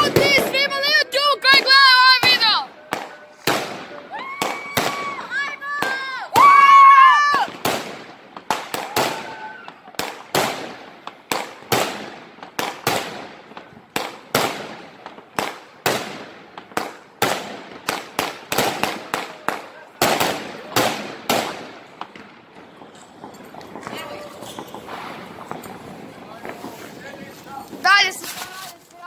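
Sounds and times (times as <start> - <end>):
fireworks bursting with bangs: 0.0 - 29.0.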